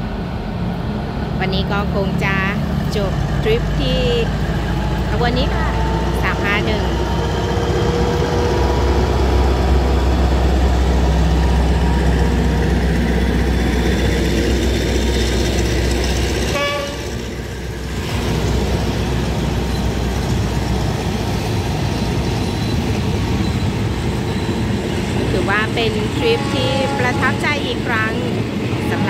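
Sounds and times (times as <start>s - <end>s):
locomotive engine drone: 0.0s - 29.0s
train coaches rolling on track: 0.0s - 29.0s.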